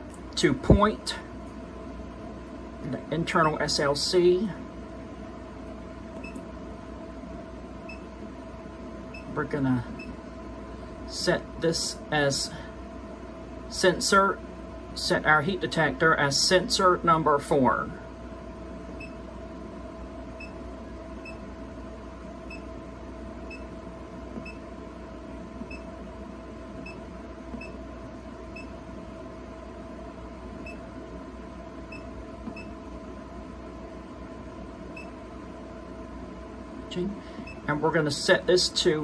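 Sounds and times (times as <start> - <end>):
steady electrical hum: 0.0 - 39.0.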